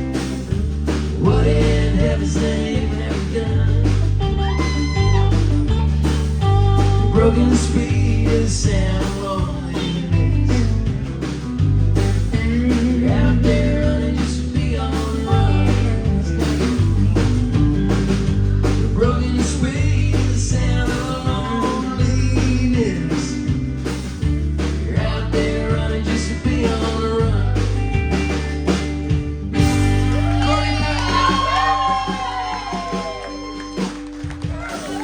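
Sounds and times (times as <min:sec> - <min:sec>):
live band playing country-rock: 0:00.0 - 0:35.0.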